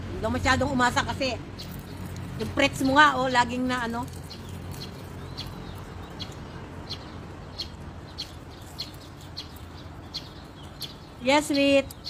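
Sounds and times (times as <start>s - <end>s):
small bird chirping: 1.5s - 12.0s.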